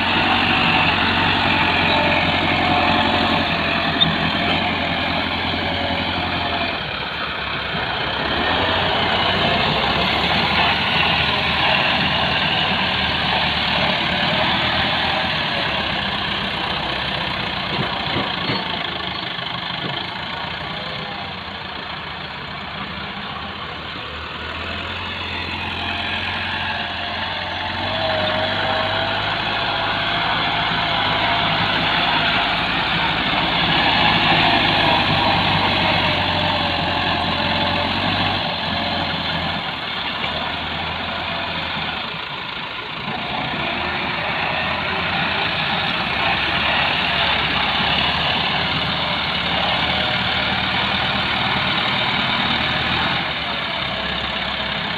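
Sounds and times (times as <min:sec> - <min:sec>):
diesel tractor engine labouring: 0:00.0 - 0:54.9.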